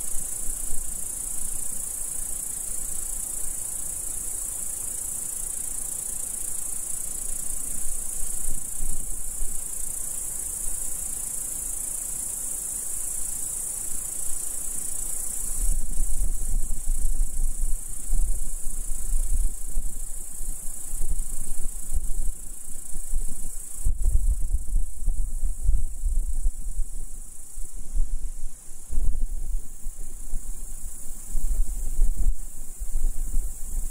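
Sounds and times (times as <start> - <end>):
insects shrilling: 0.0 - 33.9.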